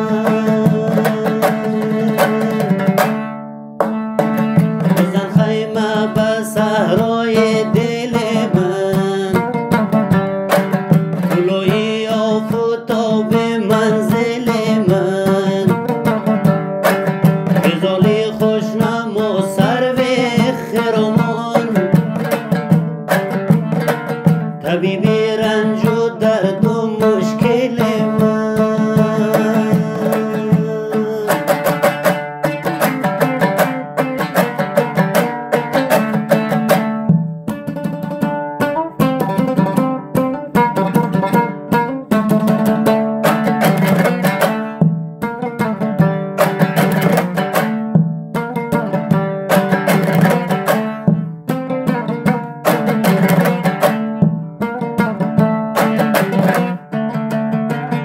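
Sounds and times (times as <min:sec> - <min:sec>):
lute strummed fast: 0:00.0 - 0:58.0.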